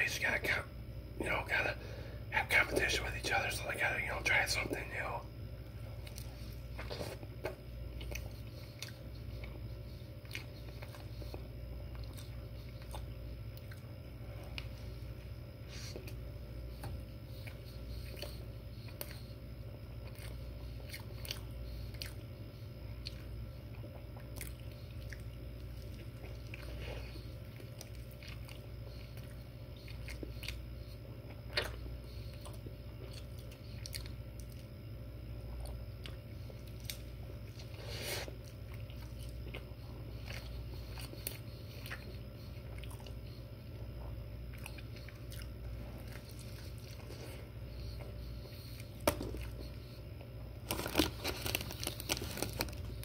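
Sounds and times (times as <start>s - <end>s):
man biting and chewing food: 5.8s - 53.0s.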